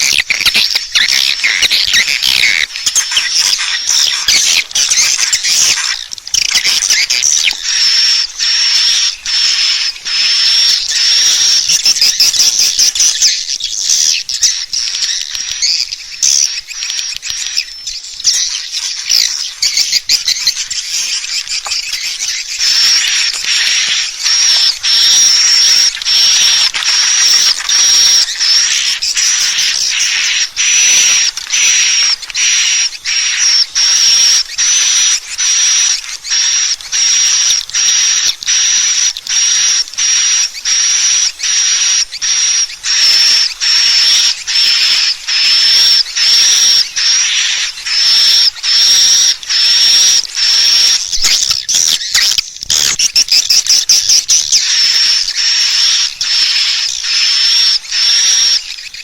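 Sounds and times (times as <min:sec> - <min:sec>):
sharp high chirp: 0:00.0 - 0:59.0
twittering swiftlet chirps: 0:00.0 - 0:59.0.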